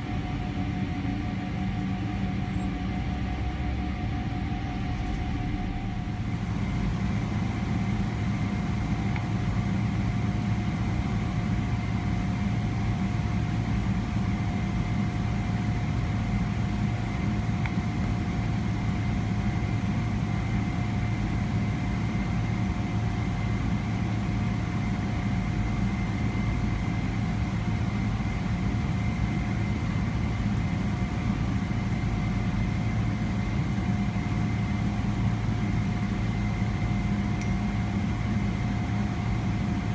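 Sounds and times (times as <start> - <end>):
aircraft cabin drone: 0.0 - 39.9
faint engine whine: 0.0 - 39.9.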